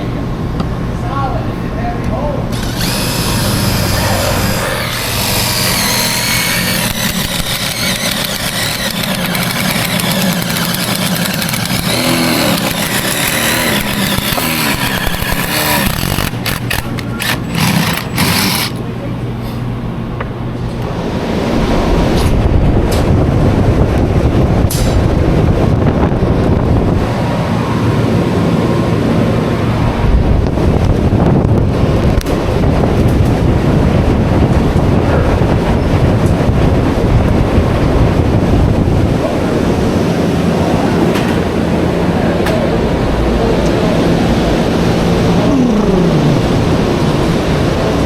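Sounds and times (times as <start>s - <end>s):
mechanical rumble: 2.5s - 48.0s.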